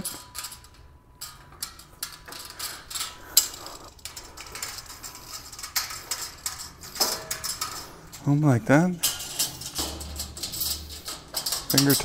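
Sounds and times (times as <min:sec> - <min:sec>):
metal cart frame clicking and rattling: 0:00.0 - 0:12.0.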